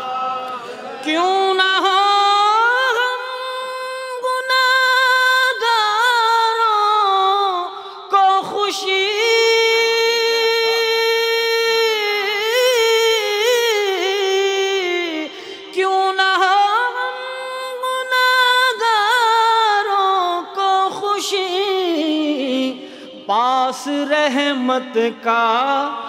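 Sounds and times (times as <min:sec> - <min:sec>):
man singing unaccompanied: 0:00.0 - 0:03.3, 0:04.2 - 0:17.2, 0:17.8 - 0:26.0.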